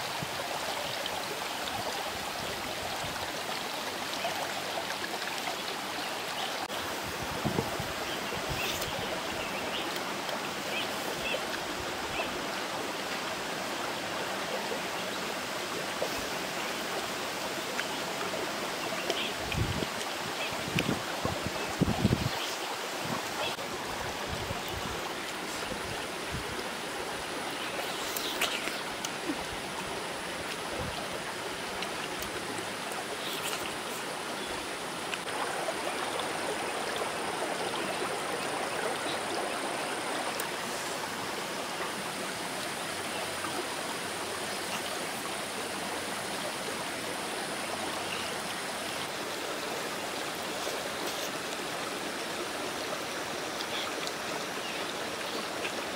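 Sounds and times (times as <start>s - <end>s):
rocky stream flowing: 0.0s - 55.9s.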